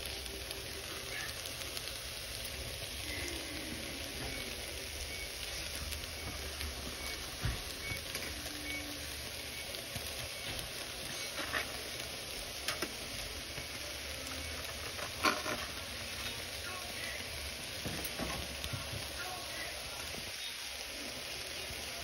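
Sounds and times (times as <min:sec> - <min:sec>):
food sizzling in a skillet: 0:00.0 - 0:22.0.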